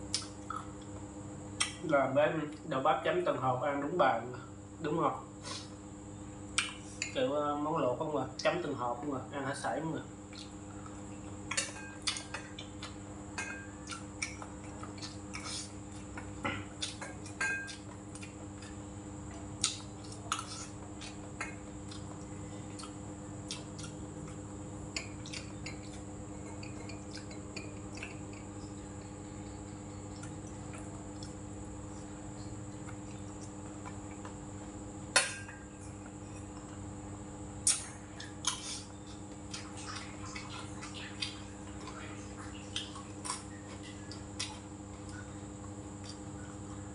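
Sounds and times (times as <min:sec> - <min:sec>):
steady background hum: 0:00.0 - 0:46.9.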